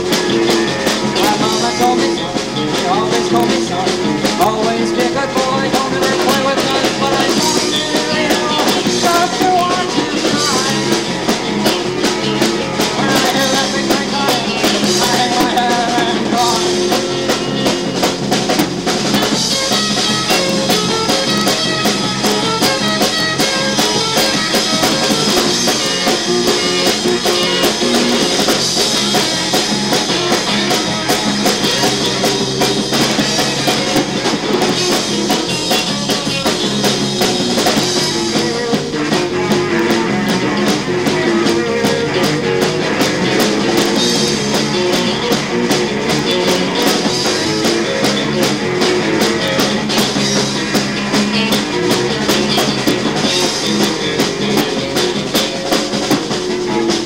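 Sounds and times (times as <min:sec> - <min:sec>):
drum kit beat: 0:00.0 - 0:57.0
rock guitars: 0:00.0 - 0:57.0.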